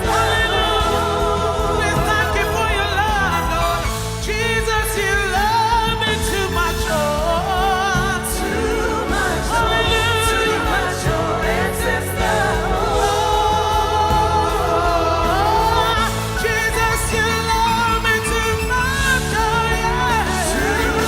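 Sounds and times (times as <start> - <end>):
band playing: 0.0 - 21.0
singers holding long notes: 0.0 - 21.0.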